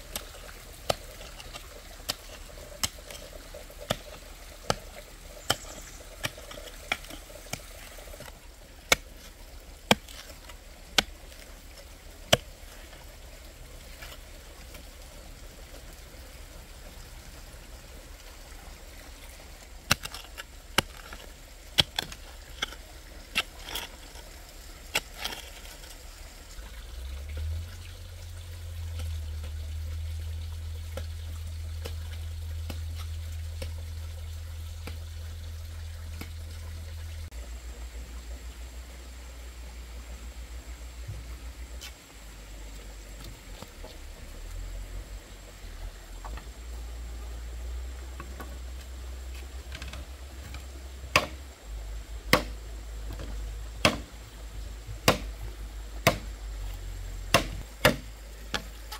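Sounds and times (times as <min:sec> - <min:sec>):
low steady hum: 0:00.0 - 0:58.9
water trickling: 0:00.0 - 0:58.9.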